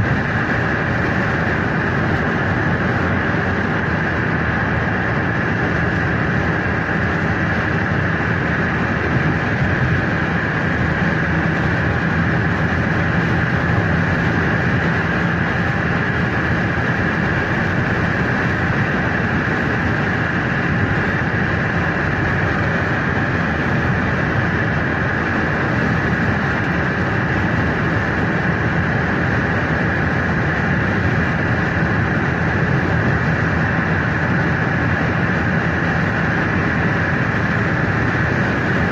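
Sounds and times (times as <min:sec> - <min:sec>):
tyre and wind noise in car: 0:00.0 - 0:38.9.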